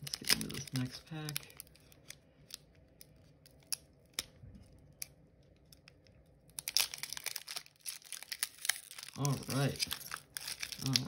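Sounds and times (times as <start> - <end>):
foil pack crinkling: 0.0 - 11.0.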